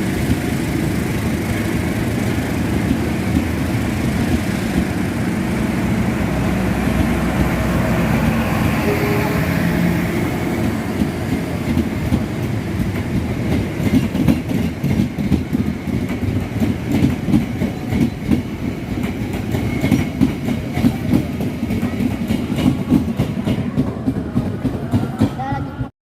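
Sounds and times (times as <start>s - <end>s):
train wheels clattering: 0.0s - 25.9s.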